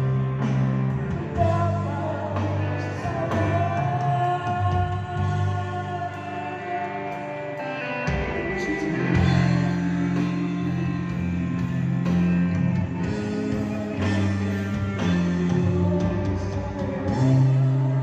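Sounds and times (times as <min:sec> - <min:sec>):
deep bass line: 0:00.0 - 0:06.1, 0:08.1 - 0:18.0
drums: 0:00.0 - 0:18.0
guitar: 0:00.0 - 0:18.0
live band music: 0:00.0 - 0:18.0.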